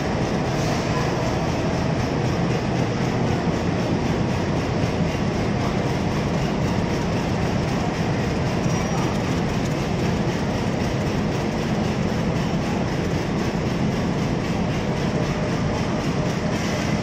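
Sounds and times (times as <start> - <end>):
train wheels clickety-clack on rails: 0.0 - 17.0.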